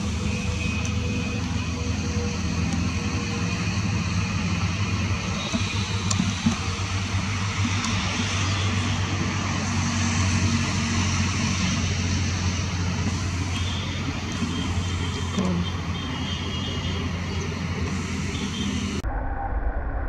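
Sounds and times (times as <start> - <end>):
distant engine rumble: 0.0 - 20.0.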